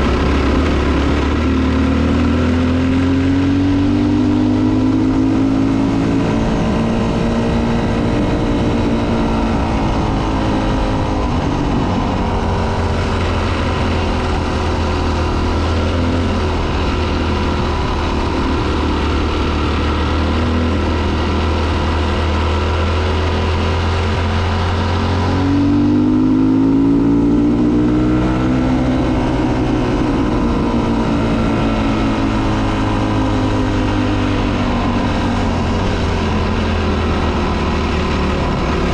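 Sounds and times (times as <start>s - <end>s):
dirt bike engine: 0.0s - 38.9s
steady rush of noise: 0.0s - 38.9s.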